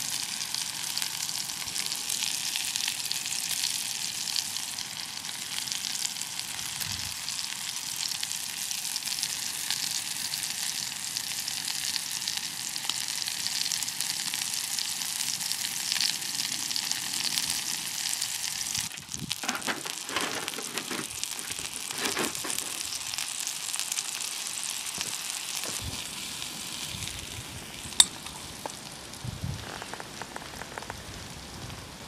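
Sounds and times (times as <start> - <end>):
mushrooms sizzling in a frying pan: 0.0 - 32.0.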